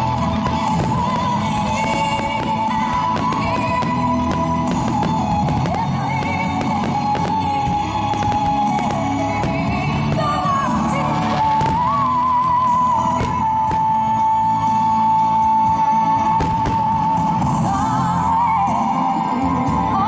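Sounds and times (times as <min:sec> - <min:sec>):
firework bangs and crackles: 0:00.0 - 0:18.5
loud music with held melody: 0:00.0 - 0:20.0.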